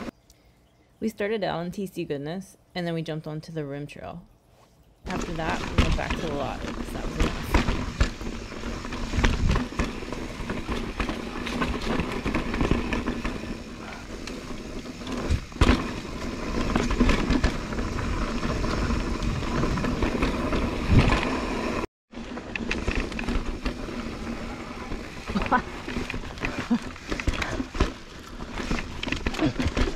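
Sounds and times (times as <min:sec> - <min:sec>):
bike rattling: 0:05.1 - 0:29.9
bike tyres rumbling on trail: 0:05.1 - 0:29.9.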